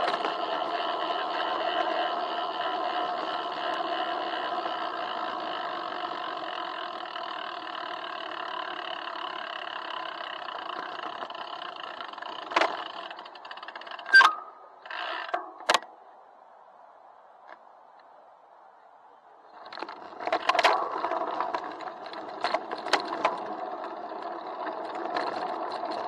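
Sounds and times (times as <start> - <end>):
muffled bicycle riding hum: 0.0 - 26.0.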